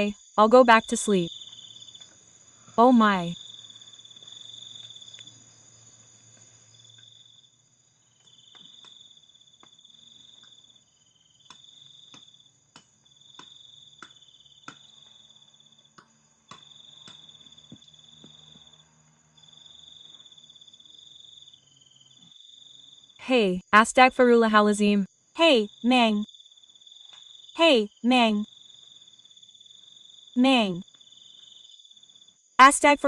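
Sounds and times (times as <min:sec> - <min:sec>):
crickets trilling: 0:00.0 - 0:23.2, 0:25.1 - 0:27.6, 0:28.4 - 0:32.6.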